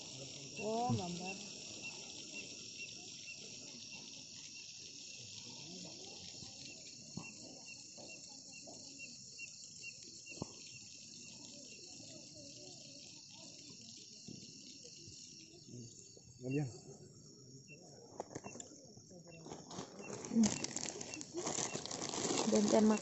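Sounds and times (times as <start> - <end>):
crickets trilling and chirping: 0.0 - 23.0.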